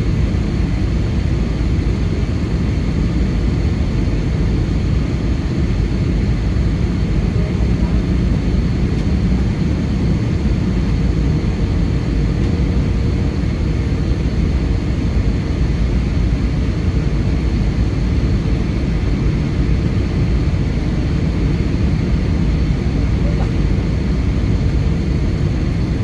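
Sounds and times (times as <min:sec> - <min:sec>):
airliner cabin engine noise: 0:00.0 - 0:26.0.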